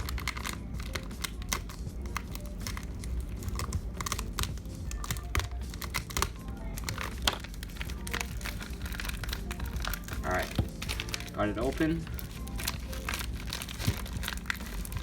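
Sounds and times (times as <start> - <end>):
packaging crinkling and tearing: 0.0 - 15.0.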